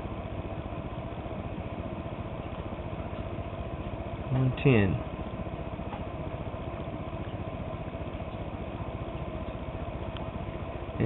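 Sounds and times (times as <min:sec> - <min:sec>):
blower fan humming: 0:00.0 - 0:11.0.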